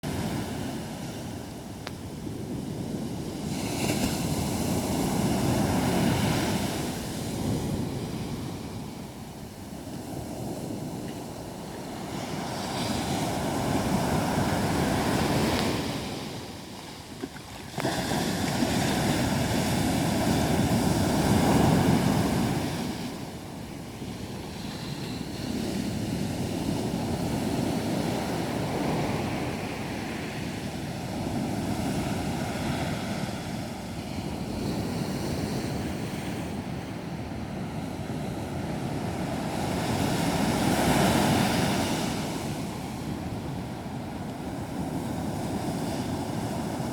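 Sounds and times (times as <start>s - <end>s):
sea surf breaking on beach: 0.0s - 46.9s
wind on microphone: 0.0s - 46.9s.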